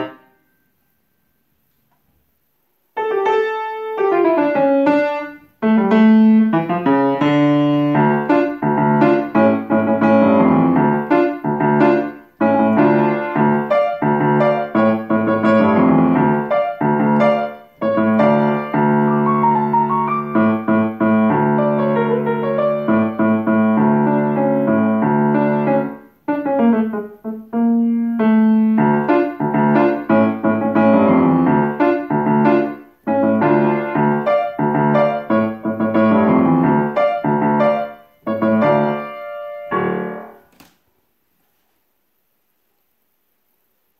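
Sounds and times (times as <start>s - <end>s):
solo grand piano piece: 0.0s - 1.4s, 2.9s - 40.5s.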